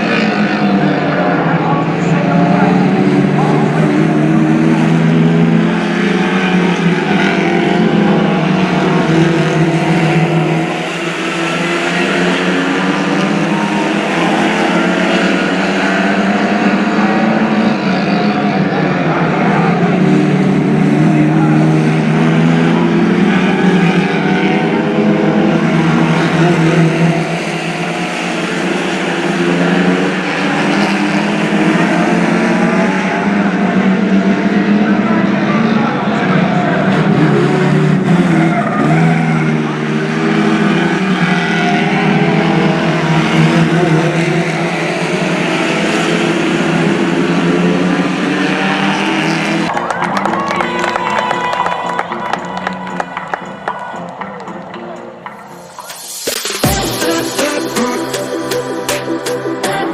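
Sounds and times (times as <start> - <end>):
race car engines at high revs: 0.0 - 59.9.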